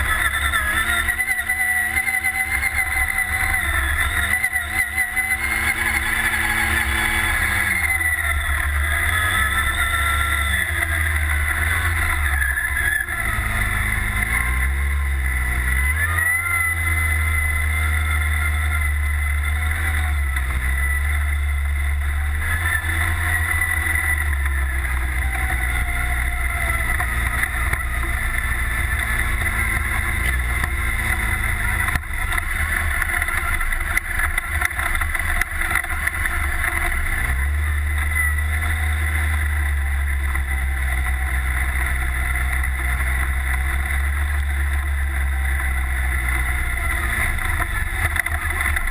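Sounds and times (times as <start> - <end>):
buggy engine revving: 0.0 - 48.9.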